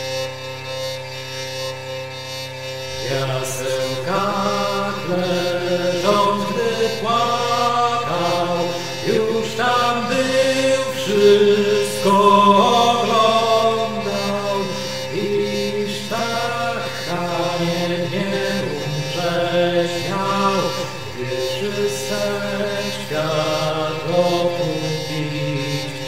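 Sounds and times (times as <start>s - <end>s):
held drone: 0.0s - 26.0s
person singing slow chant: 3.0s - 26.0s.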